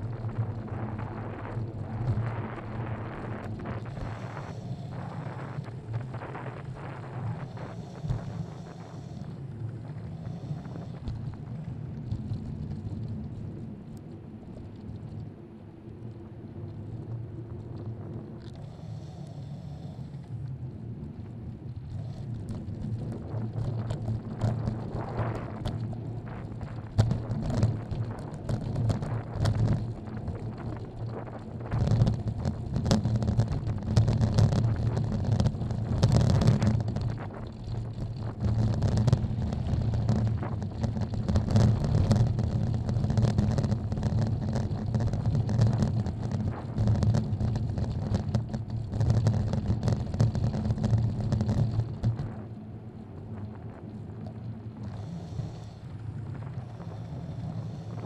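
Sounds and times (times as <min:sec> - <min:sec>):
wind buffeting microphone: 0:00.0 - 0:18.9, 0:20.3 - 0:58.0.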